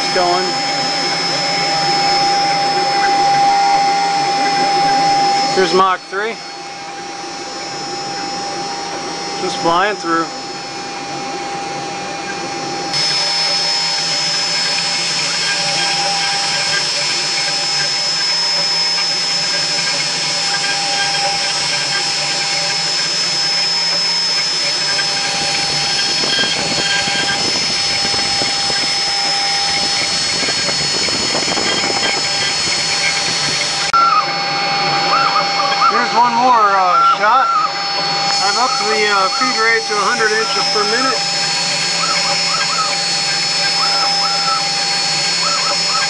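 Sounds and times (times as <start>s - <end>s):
bit cutting wood: 0.0s - 11.0s, 11.6s - 46.0s
router spindle whining: 0.0s - 46.0s.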